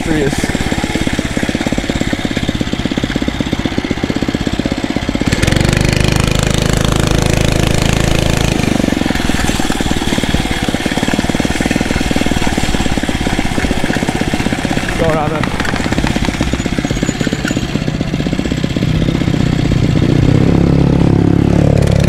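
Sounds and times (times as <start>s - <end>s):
motorized bicycle engine running: 0.0s - 22.0s.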